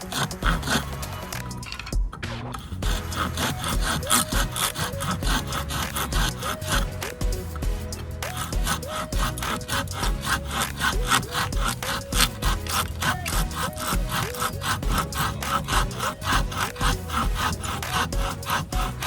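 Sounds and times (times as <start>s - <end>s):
hand saw cutting firewood: 0.0s - 1.1s, 2.6s - 6.8s, 8.2s - 19.0s
background music: 0.0s - 19.0s.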